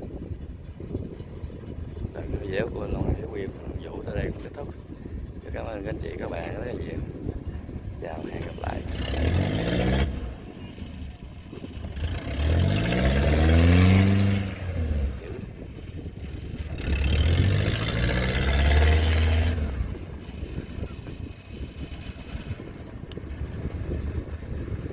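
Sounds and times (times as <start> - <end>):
combine harvester diesel engine revving: 0.1 - 24.9.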